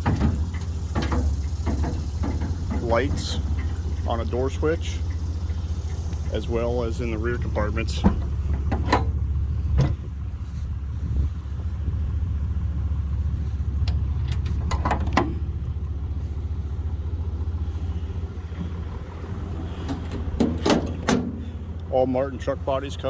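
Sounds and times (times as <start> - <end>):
short clunks: 0.0 - 10.2, 13.6 - 21.9
diesel engine idling: 0.0 - 23.0.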